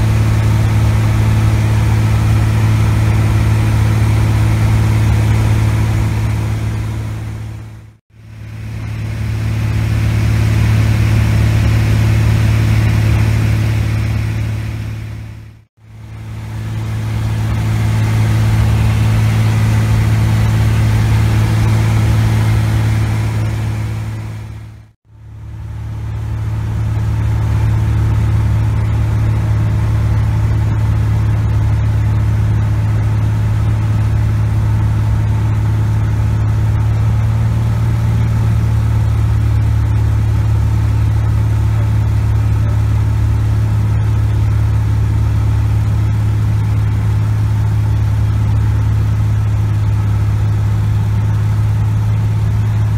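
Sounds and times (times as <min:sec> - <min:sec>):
propeller plane engine droning: 0:00.0 - 0:52.9.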